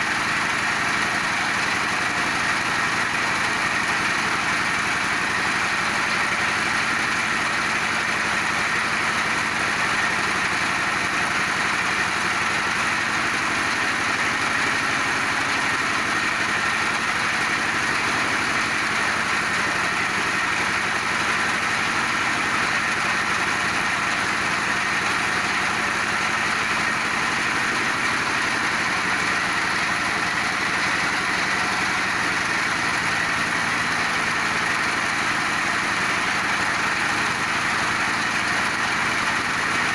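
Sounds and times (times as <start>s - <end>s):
pellet machine running: 0.0s - 39.9s.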